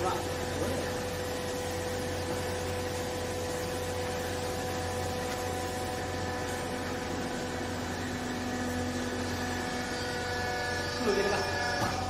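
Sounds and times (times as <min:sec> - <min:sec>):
hydraulic motor and pump humming: 0:00.0 - 0:12.0.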